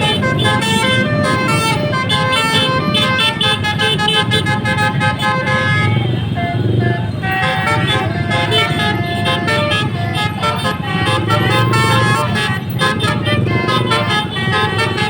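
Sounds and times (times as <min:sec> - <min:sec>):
bus engine rumble: 0:00.0 - 0:15.0
multi-tone bus horn tune: 0:00.0 - 0:15.0.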